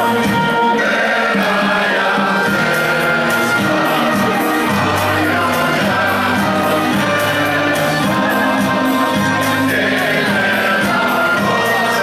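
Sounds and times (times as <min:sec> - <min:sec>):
group singing: 0:00.0 - 0:12.0.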